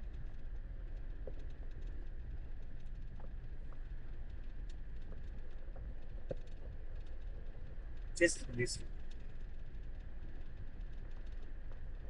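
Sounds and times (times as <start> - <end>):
faint ticks: 0.0 - 12.0
vehicle engine rumble: 0.0 - 12.0.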